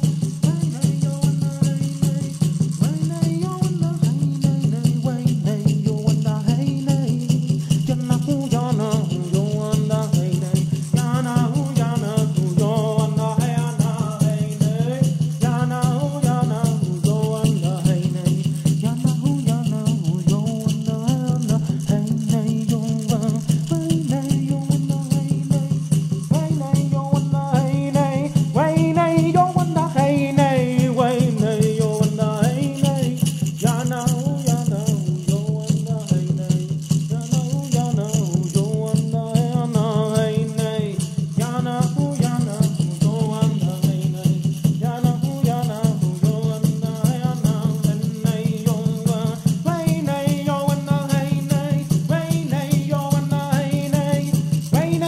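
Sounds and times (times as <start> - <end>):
rattle shaken in fast pulse: 0.0 - 55.0.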